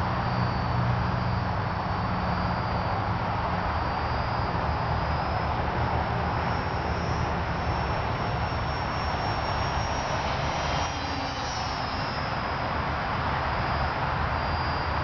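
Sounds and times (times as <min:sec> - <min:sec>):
model plane motor whine: 0:00.0 - 0:15.0
steady noisy rush: 0:00.0 - 0:15.0.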